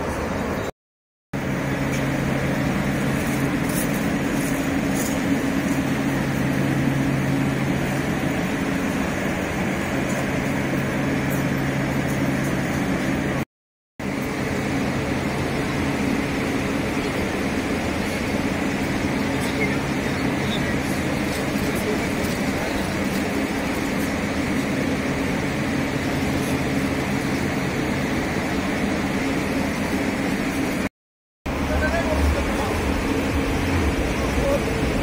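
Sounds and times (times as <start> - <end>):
steady machine hum: 1.4 - 13.4, 14.0 - 30.9, 31.5 - 35.0.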